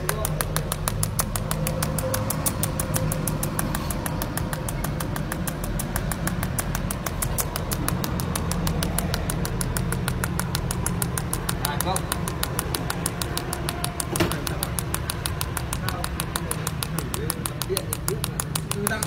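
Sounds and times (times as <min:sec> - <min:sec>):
welding arc ticking: 0:00.0 - 0:19.0.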